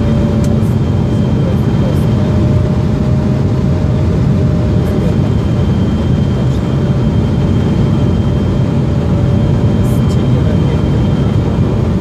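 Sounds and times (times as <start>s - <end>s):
jet engine and airflow rush: 0.0s - 12.0s.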